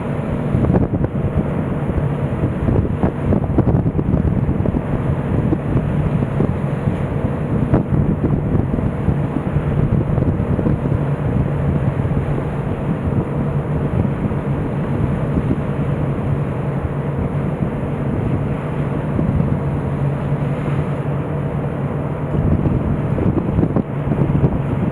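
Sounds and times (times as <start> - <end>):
ship engines droning: 0.0 - 24.9
wind buffeting microphone: 0.0 - 24.9.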